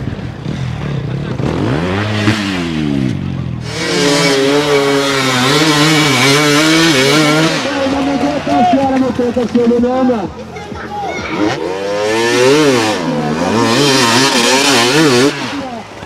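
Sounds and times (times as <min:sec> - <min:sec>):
dirt bike engine revving: 0:00.0 - 0:10.4, 0:11.2 - 0:16.0.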